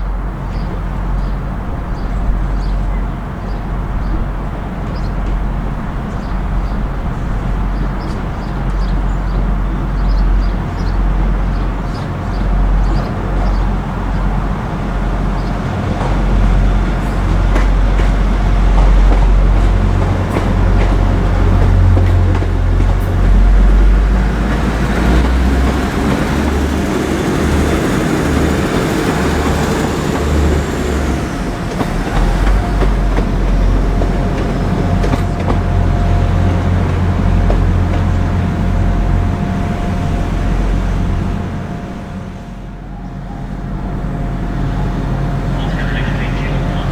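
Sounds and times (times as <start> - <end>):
diesel train rumbling: 0.0 - 46.9.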